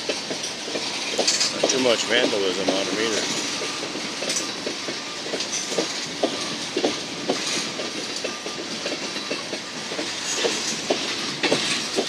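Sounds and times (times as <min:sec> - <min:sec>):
freight cars knocking and clanking: 0:00.0 - 0:12.0
train wheels rushing on rail: 0:00.0 - 0:12.0.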